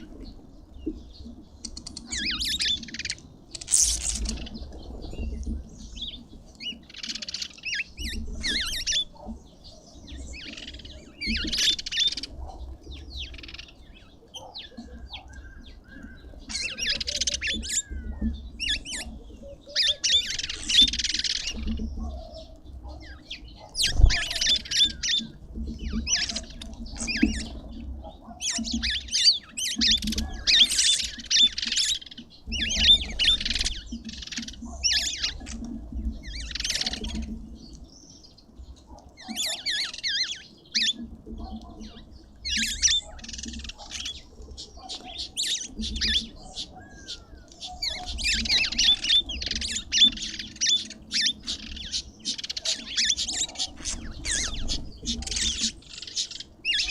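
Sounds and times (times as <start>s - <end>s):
small birds chirping and squawking: 0.0s - 56.9s.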